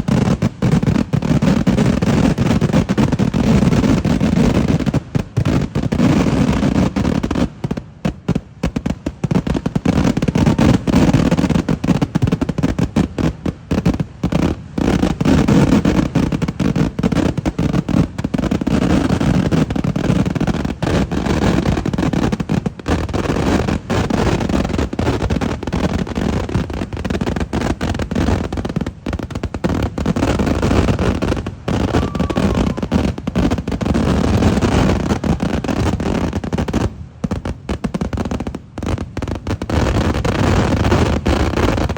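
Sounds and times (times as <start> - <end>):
fireworks banging and crackling: 0.0 - 41.9.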